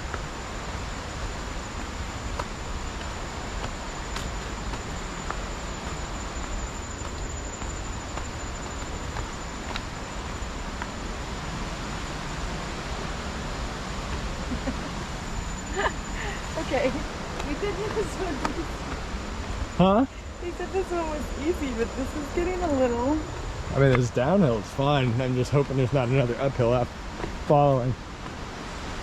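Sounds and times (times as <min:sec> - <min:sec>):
high-pitched insect drone: 0:00.0 - 0:28.0
even hiss: 0:00.0 - 0:29.0.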